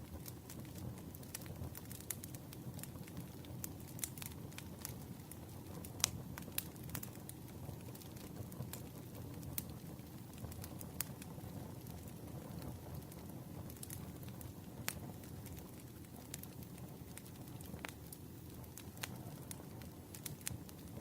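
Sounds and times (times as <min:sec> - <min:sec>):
burning wood popping: 0:00.0 - 0:21.0
low rush of flames: 0:00.0 - 0:21.0.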